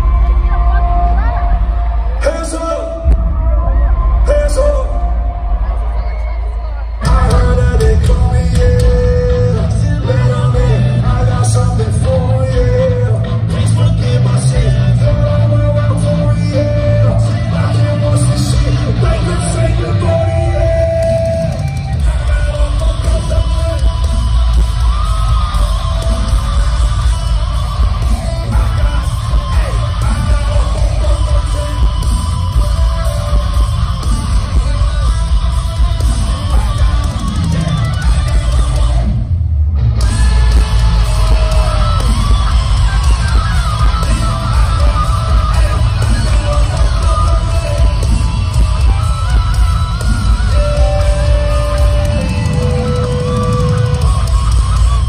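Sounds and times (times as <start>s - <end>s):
distorted electric guitars: 0.0s - 55.0s
drums: 0.0s - 55.0s
heavy bass: 0.0s - 55.0s
rock vocals: 0.0s - 55.0s.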